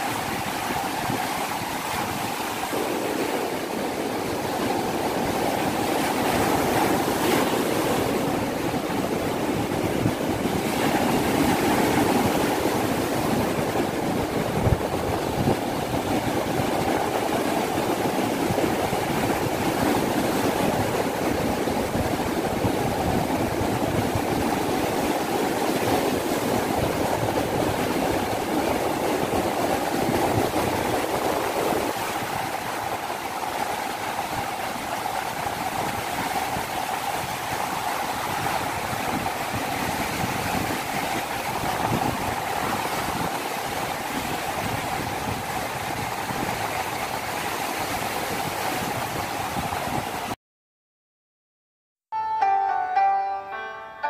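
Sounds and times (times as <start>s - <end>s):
surf breaking on beach: 0.0s - 50.4s.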